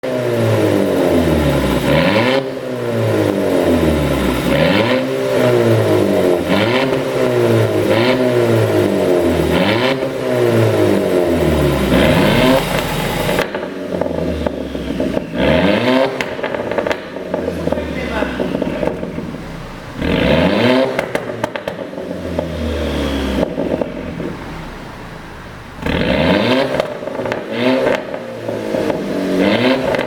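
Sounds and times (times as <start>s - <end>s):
car engine revving: 0.0s - 30.0s
exhaust pops and crackles: 3.0s - 22.6s, 23.2s - 24.6s, 25.7s - 30.0s.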